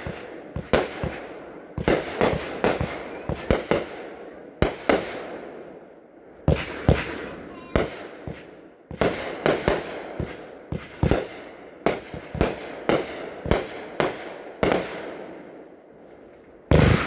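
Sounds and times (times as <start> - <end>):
firework bangs: 0.0 - 5.6, 6.4 - 15.4, 16.7 - 17.0.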